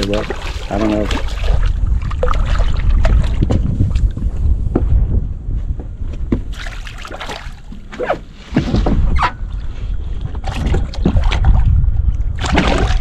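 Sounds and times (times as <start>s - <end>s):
water slapping boat hull: 0.0s - 5.0s, 6.3s - 13.0s
wind buffeting microphone: 0.0s - 13.0s.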